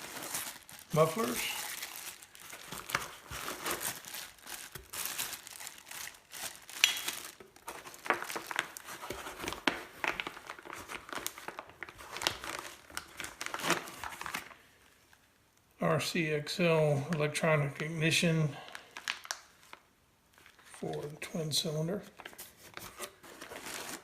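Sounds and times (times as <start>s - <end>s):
packaging crinkling: 0.0s - 14.7s, 18.6s - 21.2s, 22.0s - 24.0s.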